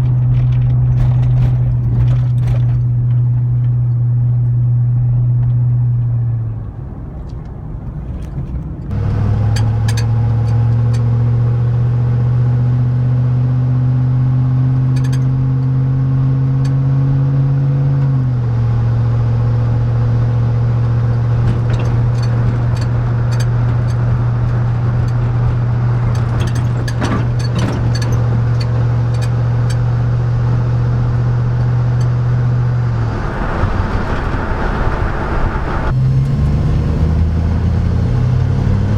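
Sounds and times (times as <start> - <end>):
truck engine drone from inside cab: 0.0 - 38.9.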